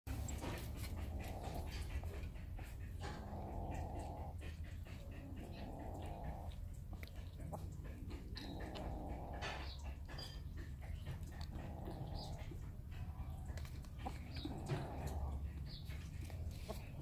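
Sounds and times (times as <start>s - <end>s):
kitten chewing meat: 0.1s - 17.0s
cat growling: 0.4s - 10.1s, 10.9s - 15.7s.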